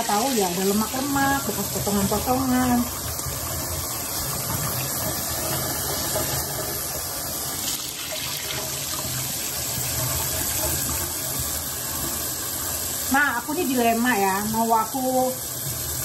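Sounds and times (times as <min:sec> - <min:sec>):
kitchen tap running: 0:00.0 - 0:16.0.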